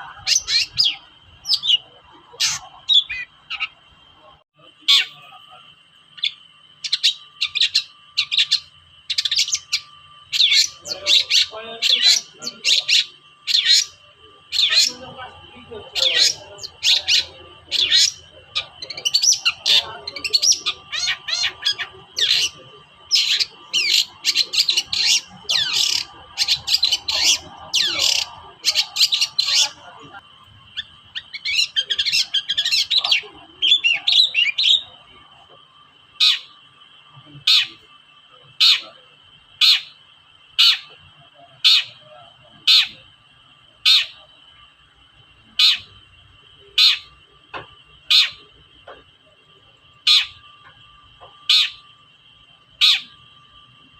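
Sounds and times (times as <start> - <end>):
shrike harsh chatter and calls: 0.0 - 53.9.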